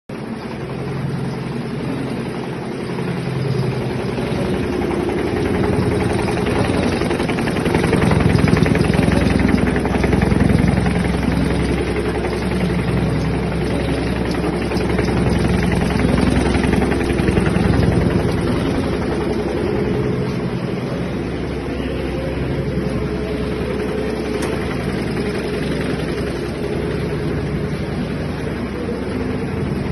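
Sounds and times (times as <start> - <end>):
machine running rhythmically: 0.1 - 29.9.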